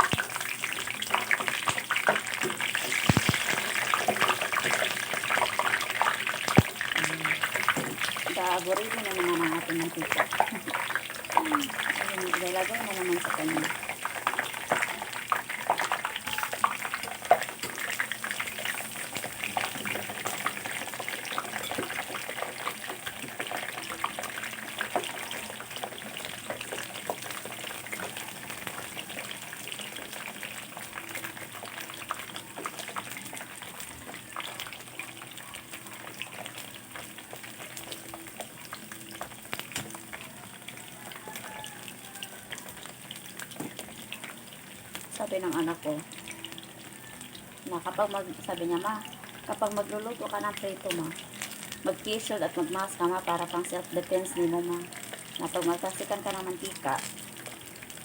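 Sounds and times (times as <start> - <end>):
eggplant sizzling in hot oil: 0.0 - 58.0.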